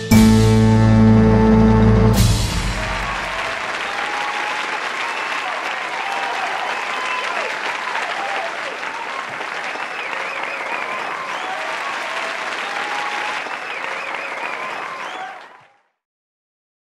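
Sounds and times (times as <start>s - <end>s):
crowd applause: 1.2s - 15.9s.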